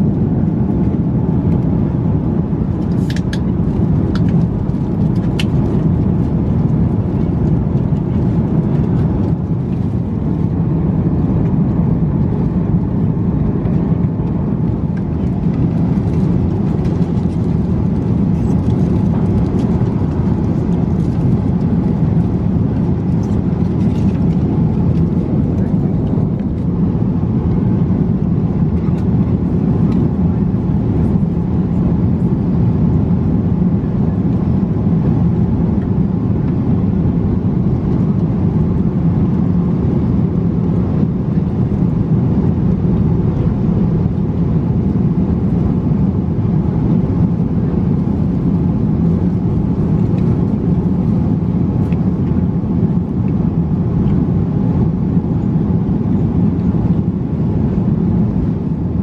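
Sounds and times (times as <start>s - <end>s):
airliner cabin noise: 0.0s - 59.0s.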